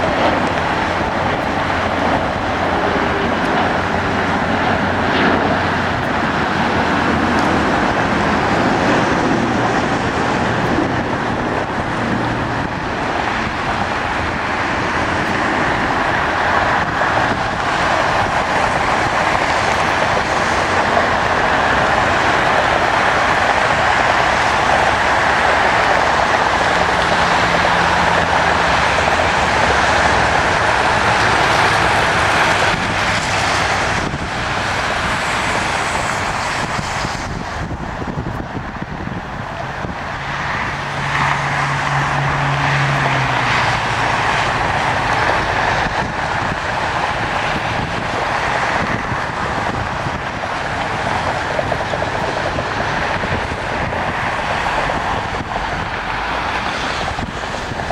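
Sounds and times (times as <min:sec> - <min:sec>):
jet airliner engines roaring: 0:00.0 - 0:57.9
low engine hum: 0:00.0 - 0:57.9
road traffic: 0:00.0 - 0:57.9.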